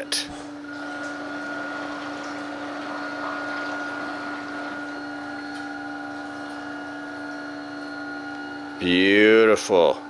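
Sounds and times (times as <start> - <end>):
motor hum: 0.0 - 10.0
churning water: 0.1 - 10.0.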